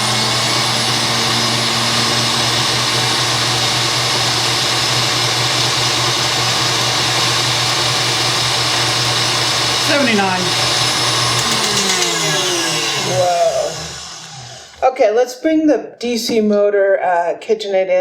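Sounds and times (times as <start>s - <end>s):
stand mixer motor whirring: 0.0s - 14.8s.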